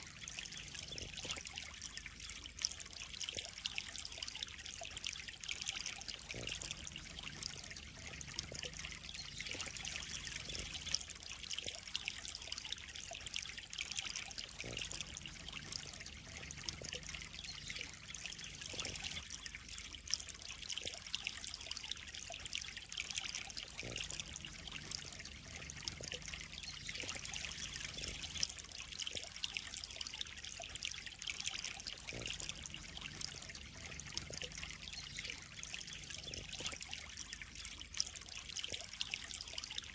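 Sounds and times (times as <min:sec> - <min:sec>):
pond water trickling and splashing: 0:00.0 - 0:39.9.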